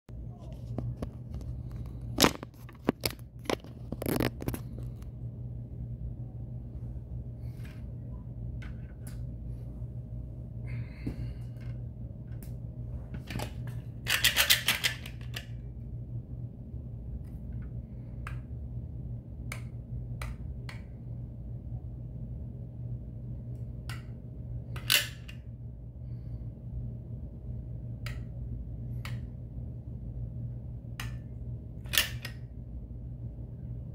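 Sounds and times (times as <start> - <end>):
low steady hum: 0.1 - 33.9.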